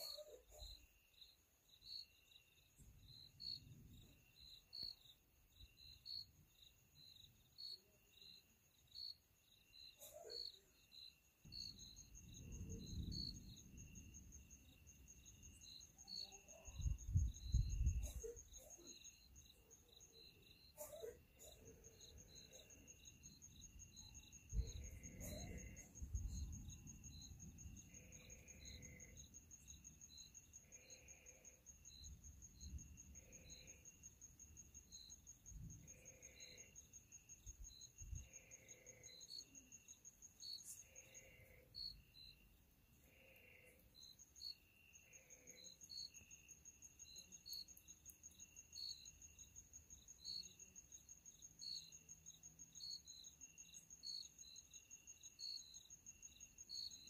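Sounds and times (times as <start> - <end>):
crickets trilling: 0.0 - 57.0
insect chirps: 0.0 - 57.0
low insect call: 0.0 - 57.0.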